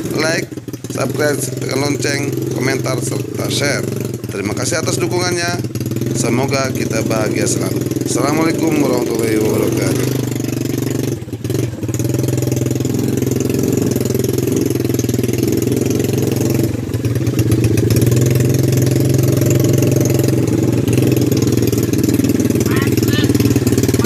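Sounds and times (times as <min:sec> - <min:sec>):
small atv engine running: 0:00.0 - 0:24.0.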